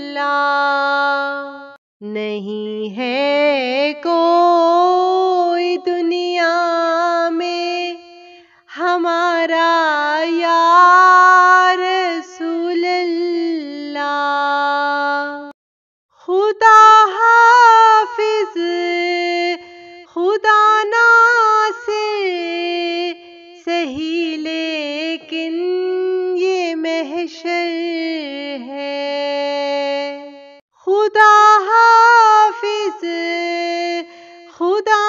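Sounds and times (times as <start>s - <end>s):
person singing unaccompanied: 0.0s - 15.6s, 16.3s - 35.0s.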